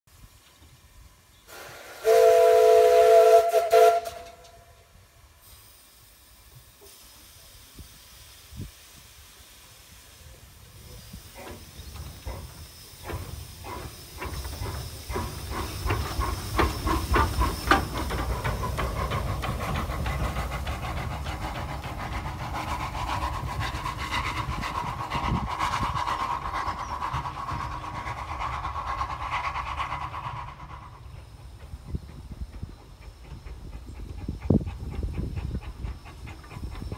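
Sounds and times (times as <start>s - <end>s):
steam hissing: 0.1s - 36.9s
steam locomotive exhaust beats: 0.1s - 36.9s
train rumbling on track: 0.1s - 36.9s.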